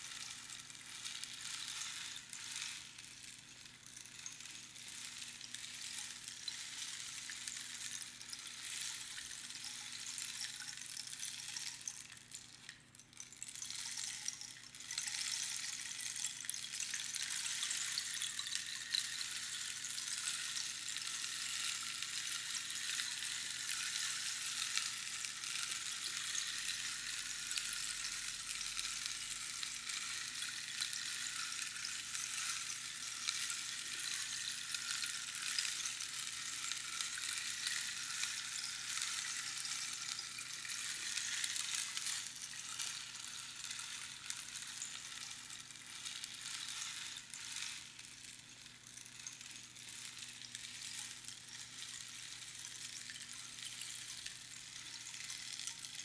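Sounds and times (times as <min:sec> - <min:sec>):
rainstick pattering: 0:00.0 - 0:56.0.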